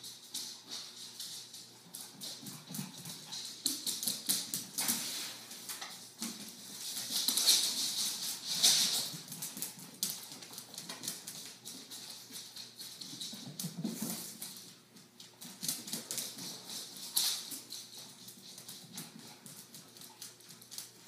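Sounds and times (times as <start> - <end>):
dog claws clicking on tile floor: 0.0 - 21.0.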